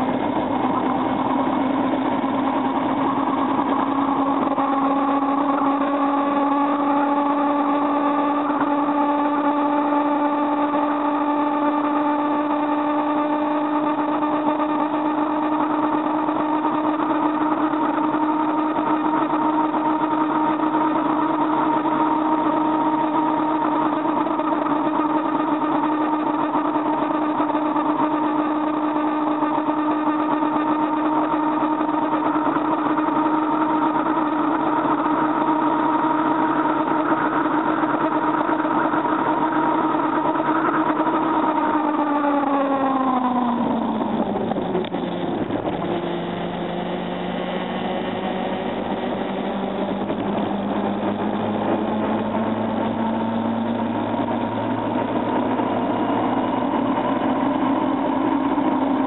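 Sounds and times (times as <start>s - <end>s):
motor scooter engine running: 0.0s - 59.0s.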